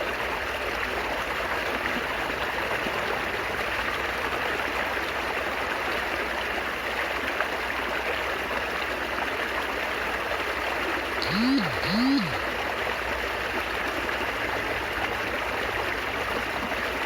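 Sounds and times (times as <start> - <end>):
water babbling: 0.0 - 17.0.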